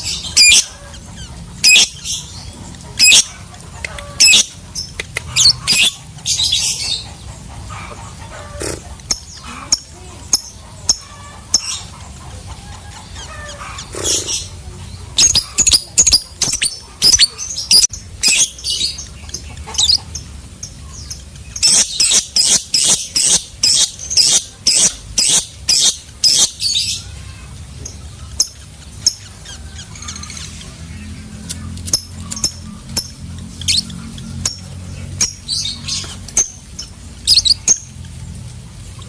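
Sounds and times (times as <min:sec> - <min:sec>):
lovebird chattering chirps: 0:00.0 - 0:07.6, 0:08.6 - 0:27.1, 0:27.8 - 0:38.3.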